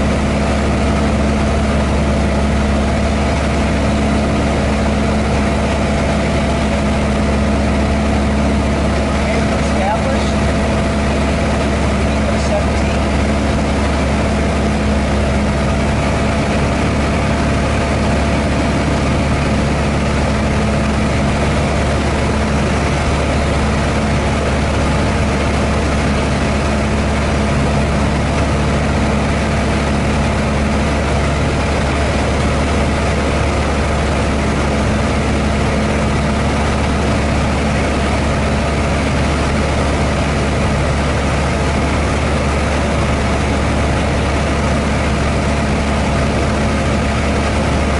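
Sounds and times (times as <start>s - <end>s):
airplane engine hum in cockpit: 0.0s - 47.9s.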